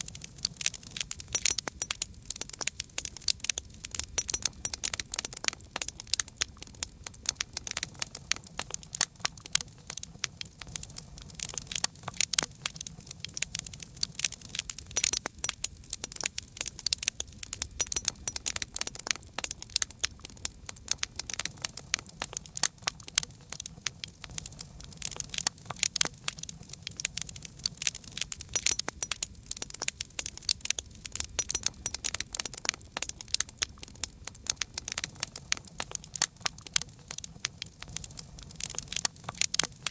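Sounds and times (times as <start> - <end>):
low rumble of burning: 0.0 - 39.9
wood fire crackling: 0.0 - 39.9.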